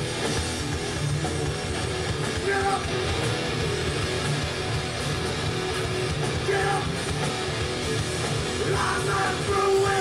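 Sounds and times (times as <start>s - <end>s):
rock band playing: 0.0s - 10.0s.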